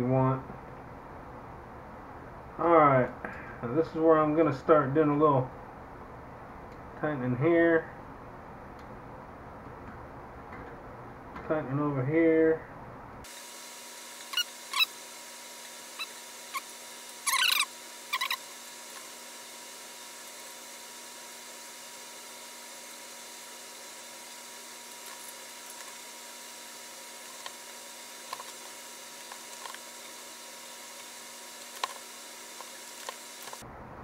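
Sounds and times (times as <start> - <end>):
faint hiss and hum: 0.0 - 34.0.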